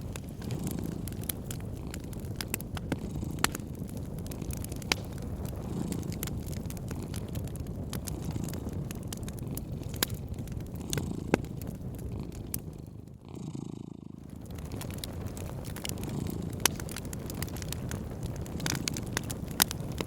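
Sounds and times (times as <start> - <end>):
cat purring: 0.0 - 20.0
wood fire crackling: 0.0 - 20.0.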